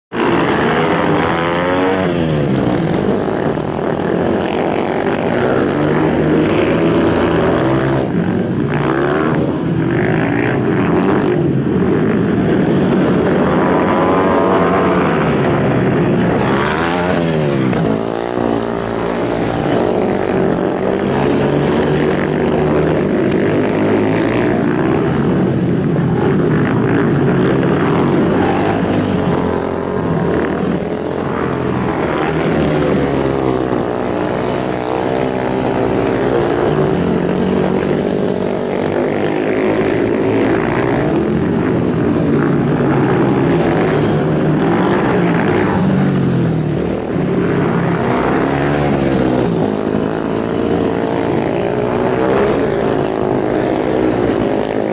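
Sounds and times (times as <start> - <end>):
racing motorcycle engines revving: 0.1 - 54.9.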